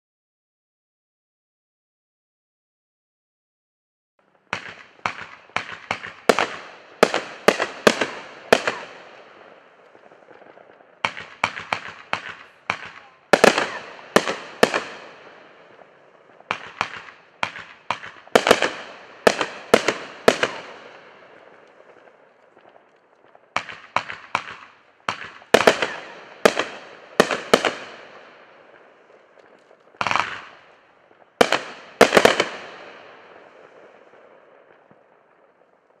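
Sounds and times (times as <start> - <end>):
firework volleys: 4.3 - 36.0.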